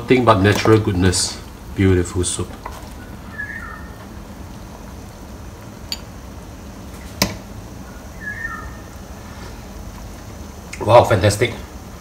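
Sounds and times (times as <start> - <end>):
stock simmering in a pot: 0.0 - 12.0.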